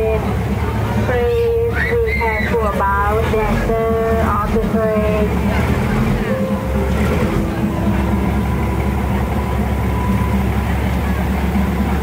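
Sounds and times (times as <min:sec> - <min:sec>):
diesel railcar engine droning: 0:00.0 - 0:12.0.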